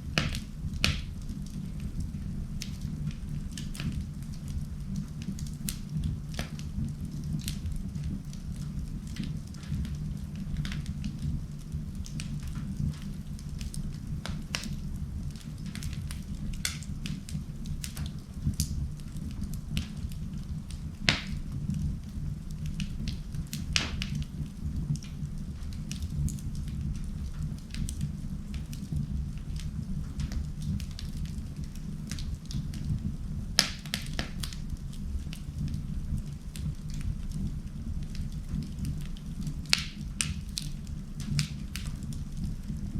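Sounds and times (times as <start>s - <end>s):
low rumble of flames: 0.0s - 42.9s
wood fire crackling and popping: 0.0s - 42.9s.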